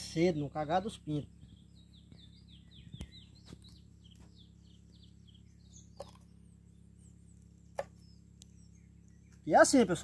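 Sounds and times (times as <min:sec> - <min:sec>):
faint birdsong: 0:00.0 - 0:10.0.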